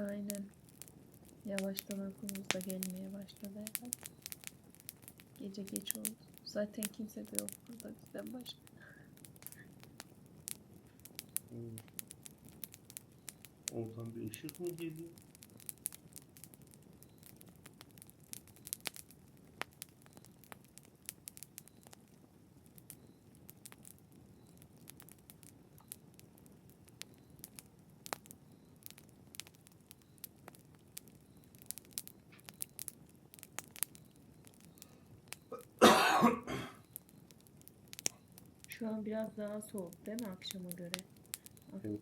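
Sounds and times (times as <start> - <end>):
campfire crackling: 0.0 - 42.0
faint low hiss: 0.0 - 42.0.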